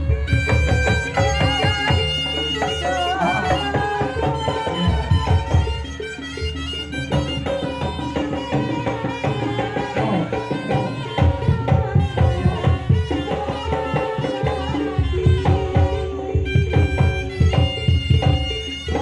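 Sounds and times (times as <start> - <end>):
hand drums beating: 0.0 - 19.0
reedy melody line: 0.0 - 19.0.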